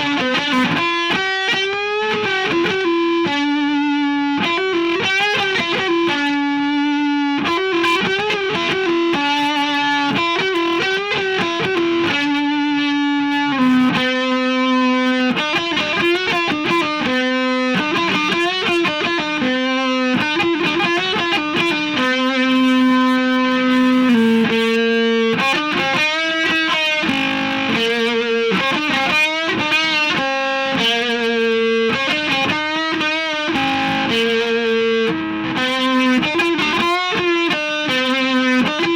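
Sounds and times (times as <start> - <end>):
distorted electric guitar lead: 0.0 - 38.9.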